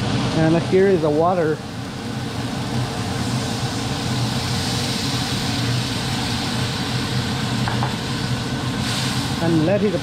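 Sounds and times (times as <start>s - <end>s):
exhaust fan humming: 0.0s - 10.0s
water sizzling in hot oil: 0.0s - 10.0s.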